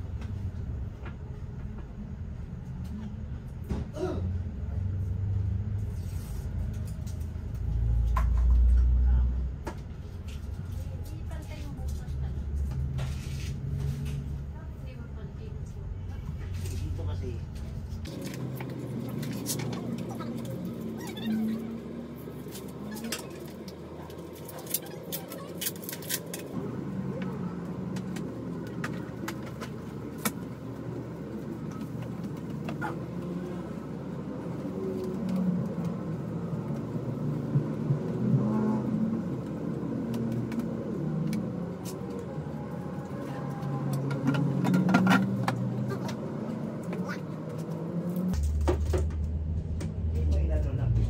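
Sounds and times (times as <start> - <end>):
low background rumble: 0.0 - 51.0.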